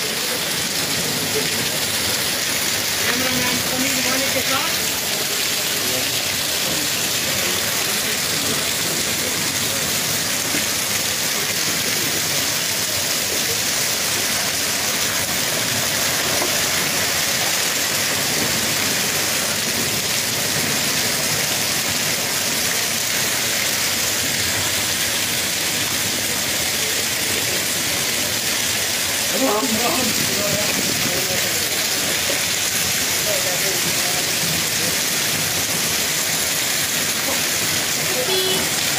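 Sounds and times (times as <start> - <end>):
hail and rain pelting down: 0.0 - 38.9.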